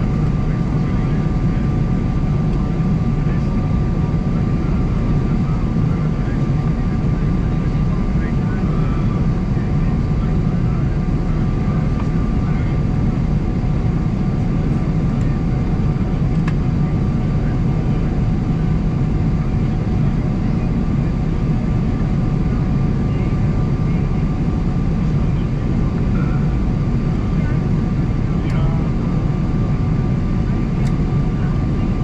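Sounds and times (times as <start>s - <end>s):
airliner cabin engine rush: 0.0s - 32.0s
faint steady hums: 0.0s - 32.0s.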